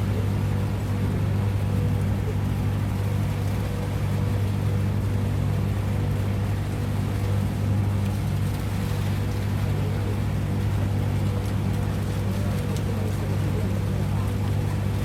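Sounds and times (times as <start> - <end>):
boat engines droning: 0.0 - 15.0.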